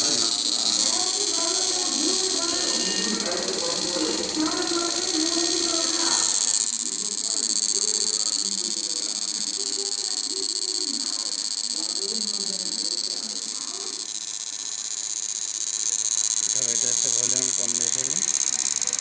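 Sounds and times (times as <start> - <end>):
high-pitched electrical whine: 0.0 - 19.0.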